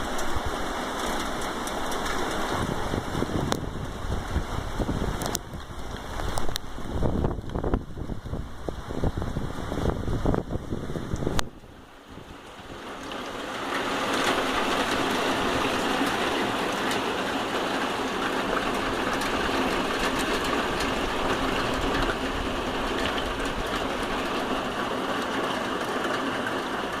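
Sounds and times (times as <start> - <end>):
rain on a tin roof: 0.0 - 27.0.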